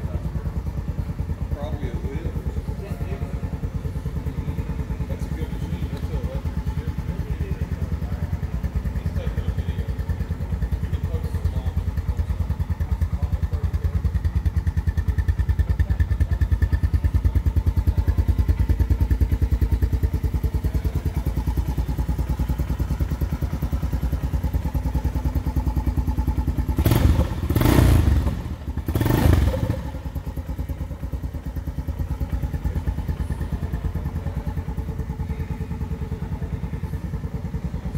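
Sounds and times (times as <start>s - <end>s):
small engine idling: 0.0s - 37.9s.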